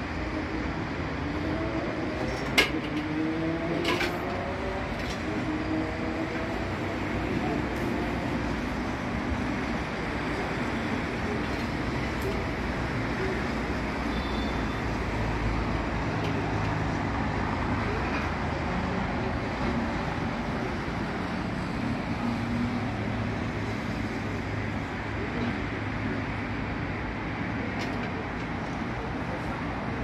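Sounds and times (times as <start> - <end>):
road traffic hum: 0.0 - 30.0.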